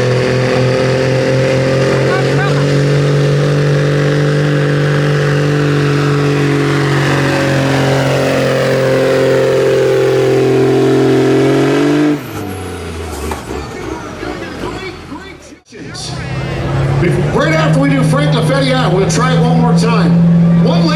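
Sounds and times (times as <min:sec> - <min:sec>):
truck engine at high revs: 0:00.0 - 0:20.9.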